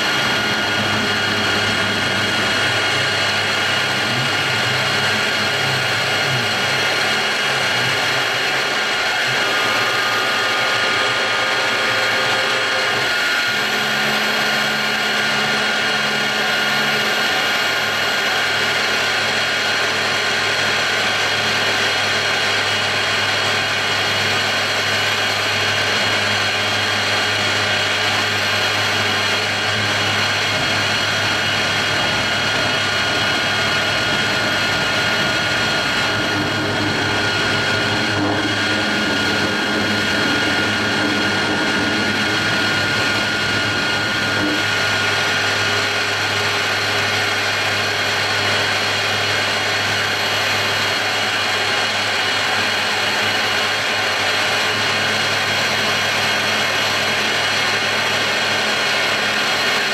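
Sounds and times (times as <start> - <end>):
end mill cutting sheet metal: 0.0 - 59.9
low machine hum: 0.0 - 59.9
milling machine whine: 0.0 - 59.9.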